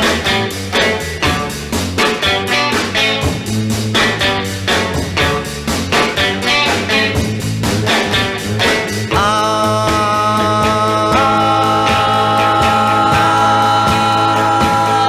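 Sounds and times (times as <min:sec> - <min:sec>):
rock music with guitar and drums: 0:00.0 - 0:15.0.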